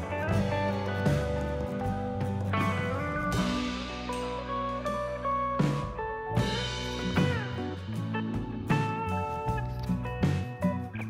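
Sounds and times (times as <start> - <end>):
guitar instrumental music: 0.0 - 11.0
steady bass: 0.0 - 11.0.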